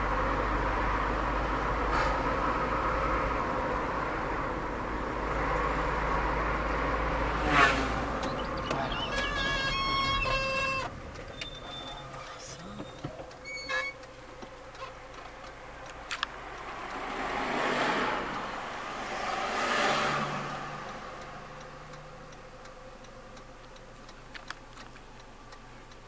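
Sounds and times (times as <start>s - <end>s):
car engine humming: 0.0s - 26.0s
road noise whooshes: 0.0s - 26.0s.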